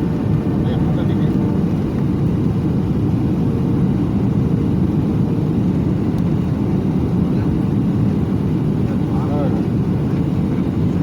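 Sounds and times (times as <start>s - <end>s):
jet engine roar and rushing air: 0.0s - 11.0s.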